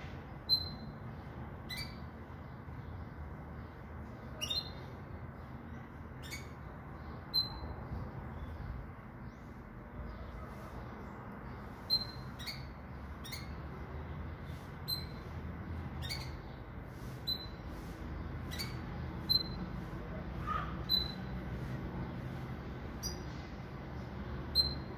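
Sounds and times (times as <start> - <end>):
bird chirping: 0.2 - 24.9.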